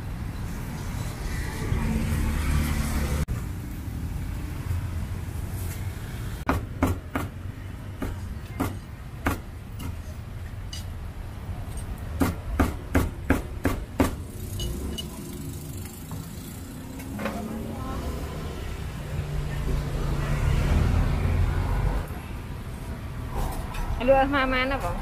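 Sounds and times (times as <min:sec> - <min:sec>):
low rumble of street traffic: 0:00.0 - 0:25.0.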